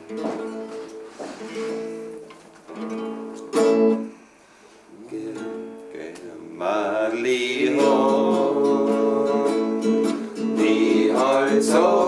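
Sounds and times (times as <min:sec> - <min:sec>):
acoustic guitar strumming chords: 0:00.0 - 0:04.3, 0:05.2 - 0:12.0.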